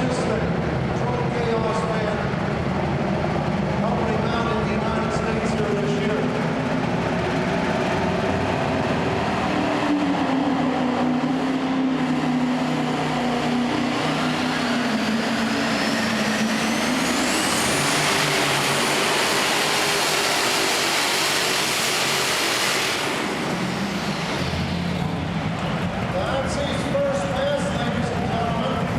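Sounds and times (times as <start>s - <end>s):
tractor engine roar: 0.0s - 28.9s.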